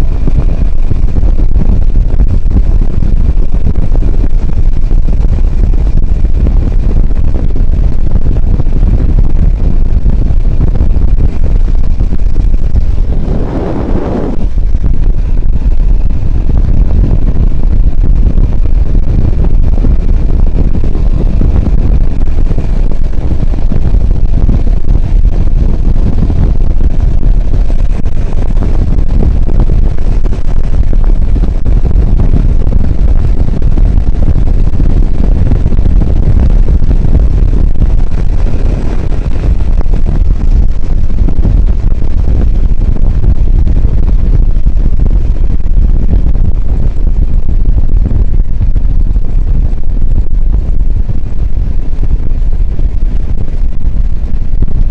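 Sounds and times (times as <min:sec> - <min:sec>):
two-stroke motorcycle engine running: 0:00.0 - 0:54.8
wind buffeting microphone: 0:00.0 - 0:54.9.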